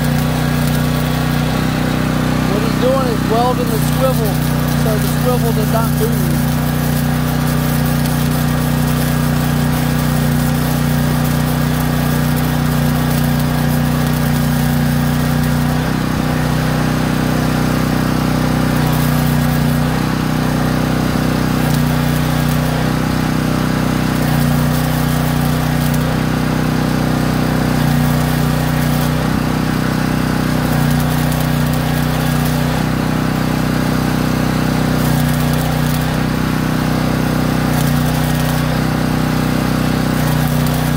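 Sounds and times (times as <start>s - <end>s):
engine running: 0.0s - 40.9s
welding arc crackling hiss: 0.0s - 40.9s.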